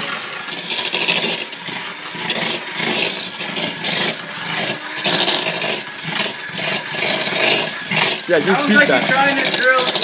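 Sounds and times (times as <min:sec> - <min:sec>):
electric hand mixer running: 0:00.0 - 0:10.0.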